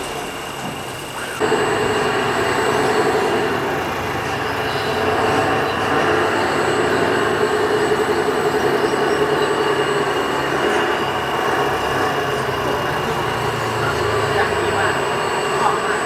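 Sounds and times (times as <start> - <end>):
electric motors whining: 0.0 - 16.0.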